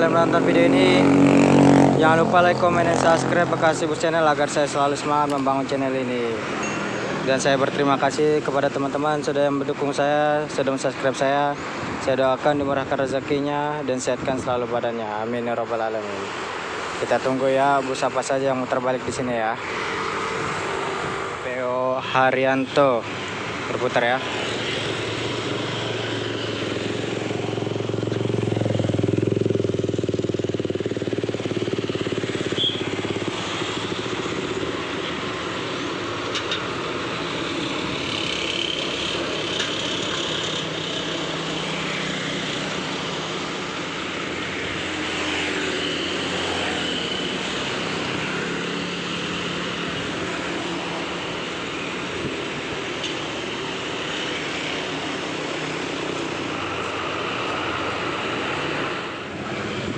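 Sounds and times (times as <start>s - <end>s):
road traffic: 0.0s - 59.9s.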